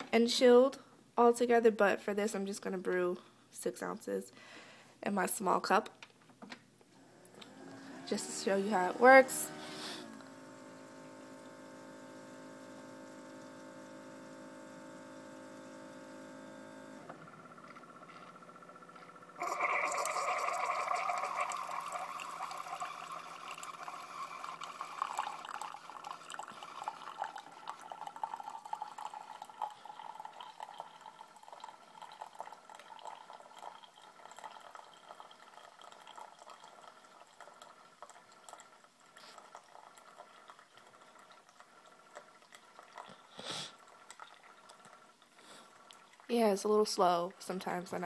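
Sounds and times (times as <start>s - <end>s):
coffee pouring into a mug: 7.7s - 48.0s.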